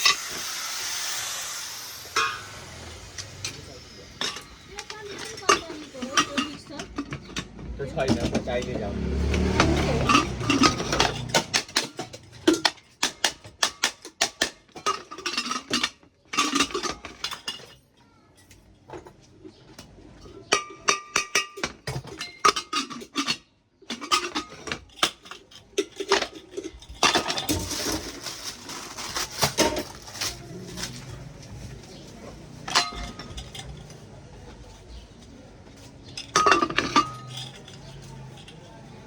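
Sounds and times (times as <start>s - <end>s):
small hard objects clinking: 0.0s - 39.0s.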